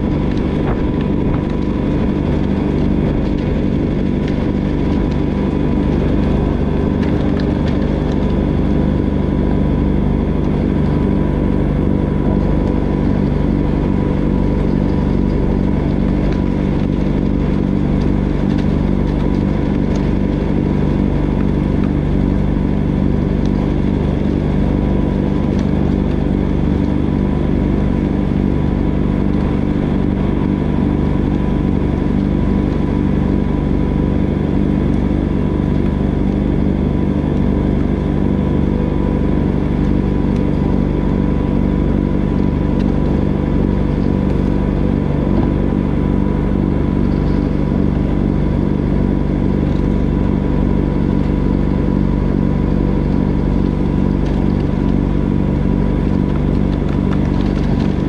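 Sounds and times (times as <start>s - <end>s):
diesel engine running: 0.0s - 58.0s
snowblower throwing snow: 0.0s - 58.0s.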